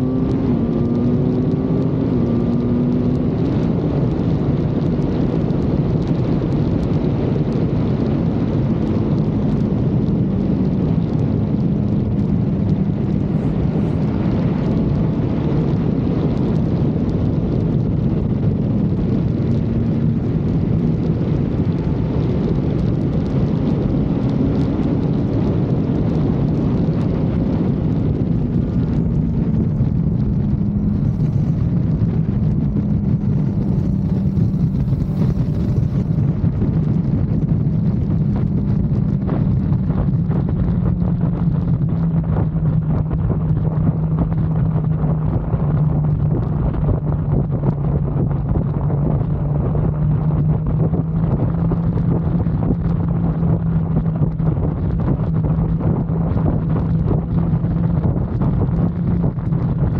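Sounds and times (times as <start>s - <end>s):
motorcycle engine running: 0.0s - 59.9s
wind buffeting on microphone: 0.0s - 59.9s.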